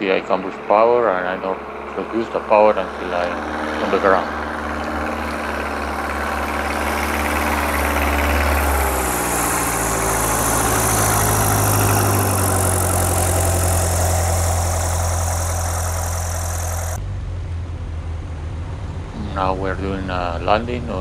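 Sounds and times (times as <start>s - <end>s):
plane engine and propeller: 0.0s - 21.0s.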